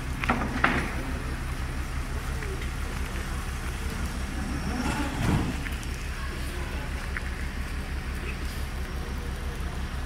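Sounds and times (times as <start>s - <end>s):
street noise: 0.0s - 10.0s
vehicle engine idling: 0.0s - 10.0s.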